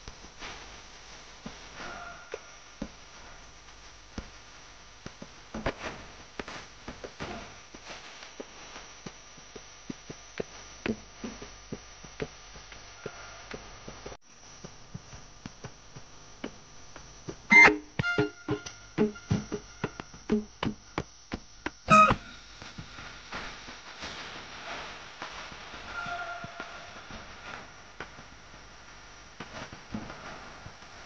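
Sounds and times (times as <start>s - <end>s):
steady background noise: 0.0s - 31.0s.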